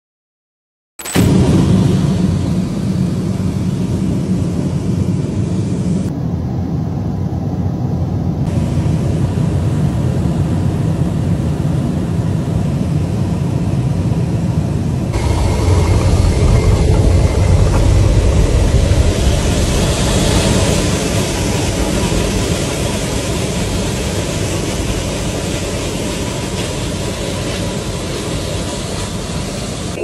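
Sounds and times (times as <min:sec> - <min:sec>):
aircraft engine noise: 0:01.0 - 0:30.0
roar of rushing air in cabin: 0:01.2 - 0:30.0.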